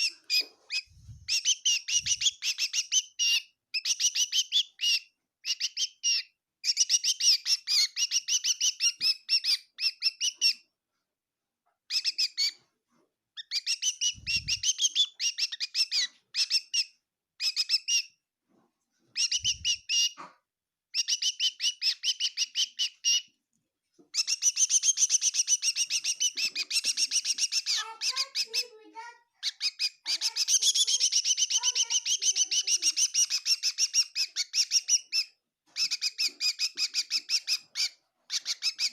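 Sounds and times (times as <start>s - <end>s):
small bird chirping: 0.0s - 10.7s, 11.9s - 12.7s, 13.4s - 18.2s, 19.0s - 20.3s, 20.9s - 23.4s, 24.0s - 38.9s.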